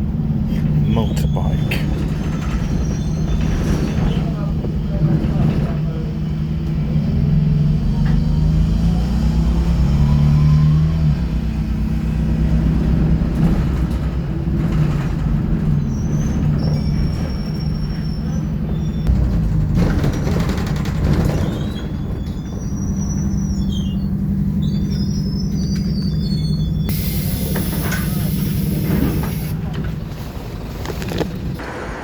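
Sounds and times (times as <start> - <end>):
bus engine droning: 0.0 - 32.0.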